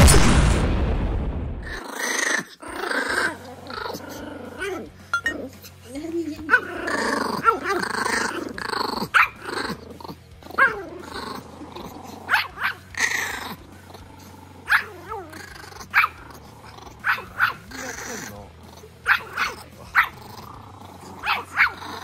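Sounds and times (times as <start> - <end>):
dogs growling and snarling: 1.6 - 22.0
dogs yapping: 1.8 - 22.0.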